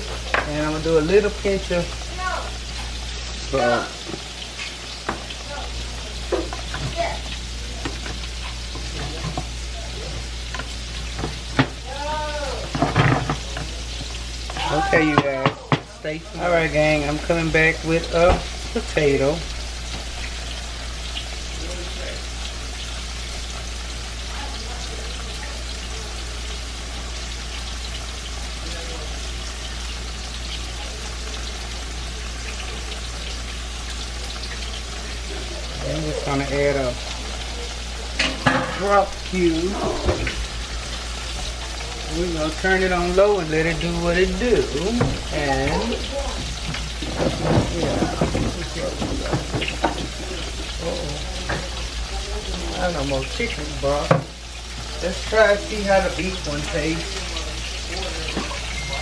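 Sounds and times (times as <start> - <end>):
food sizzling in pot: 0.0 - 59.0
steady kitchen hiss: 0.0 - 59.0.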